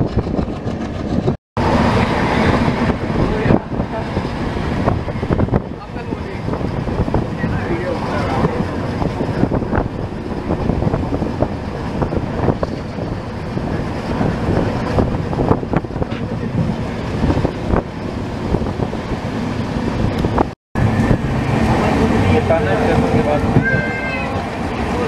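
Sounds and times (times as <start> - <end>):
train wheels rumbling on track: 0.0 - 25.0
wind buffeting microphone: 0.0 - 25.0.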